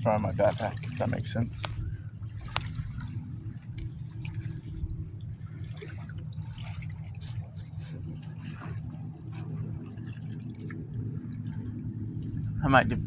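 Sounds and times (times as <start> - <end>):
water dripping and splashing: 0.0 - 12.6
low steady rumble: 0.0 - 13.0.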